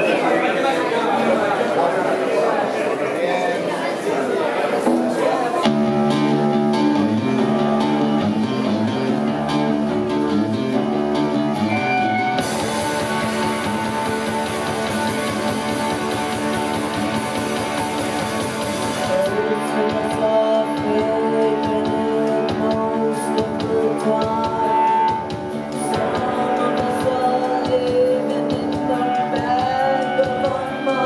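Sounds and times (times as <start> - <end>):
rock band playing live: 4.8 - 31.0.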